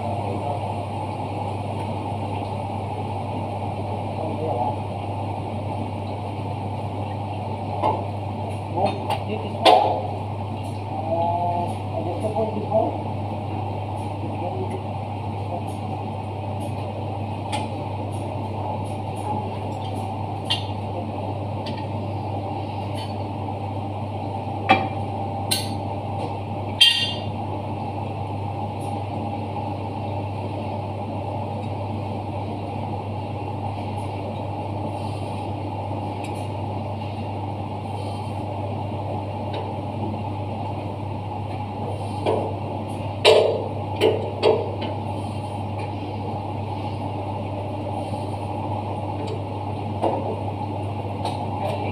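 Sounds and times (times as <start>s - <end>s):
machinery hum: 0.0s - 51.9s.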